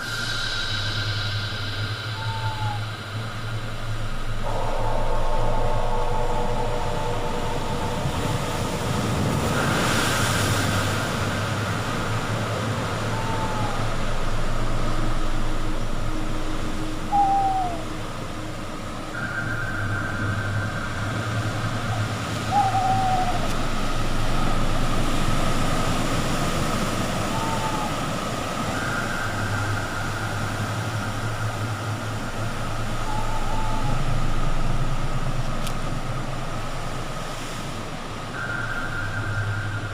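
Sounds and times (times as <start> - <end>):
ocean surf washing in: 0.0 - 39.9
steady hum: 0.0 - 39.9
falling hoot-like calls: 0.2 - 3.6, 4.4 - 11.0, 12.4 - 31.5, 32.4 - 35.0, 38.2 - 39.9.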